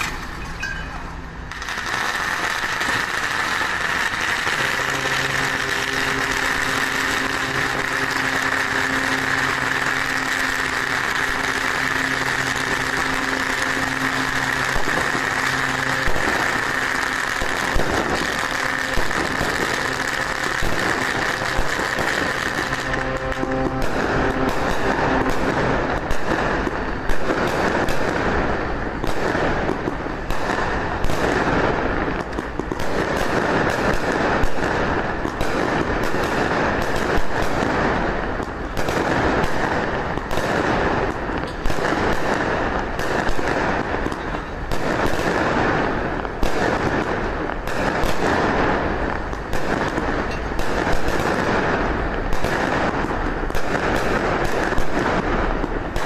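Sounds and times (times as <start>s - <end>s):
firecrackers crackling: 0.0s - 56.0s
loud firecracker bangs: 0.0s - 56.0s.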